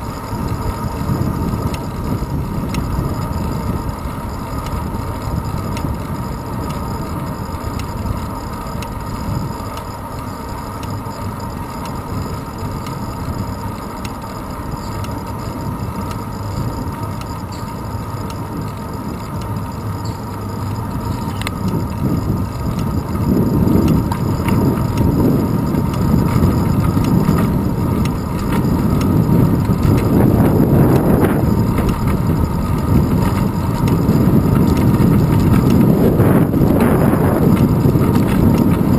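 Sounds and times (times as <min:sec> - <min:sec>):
wind rushing over microphone: 0:00.0 - 0:09.6, 0:14.7 - 0:38.9
bicycle rolling on asphalt: 0:00.0 - 0:38.9.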